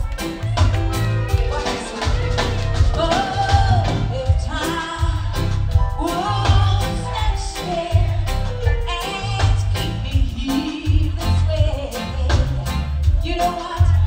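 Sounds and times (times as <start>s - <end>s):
live reggae band: 0.0s - 14.0s
woman singing into microphone: 1.3s - 14.0s.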